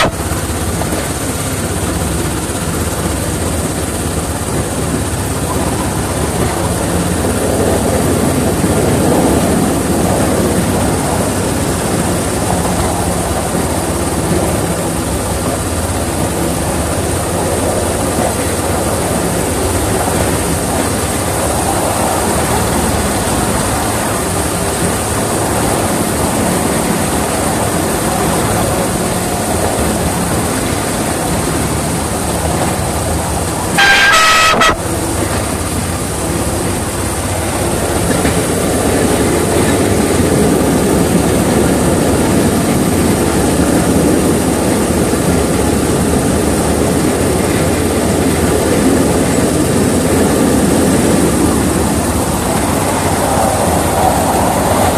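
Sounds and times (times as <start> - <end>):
miniature train running on track: 0.0 - 54.9.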